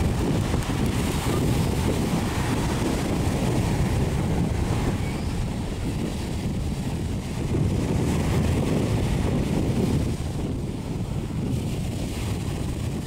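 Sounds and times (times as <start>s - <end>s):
small waves breaking on shore: 0.0s - 13.0s
wind on microphone: 0.0s - 13.0s.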